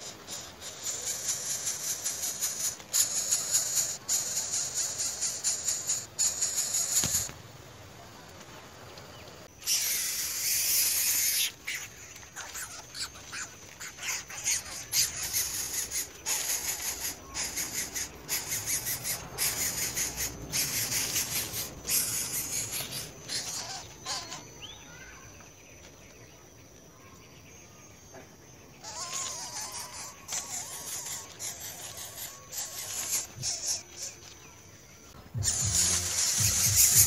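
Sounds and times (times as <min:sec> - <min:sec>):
nestlings hissing begging calls: 0:00.0 - 0:07.3, 0:09.6 - 0:24.8, 0:28.8 - 0:34.4, 0:35.3 - 0:37.0.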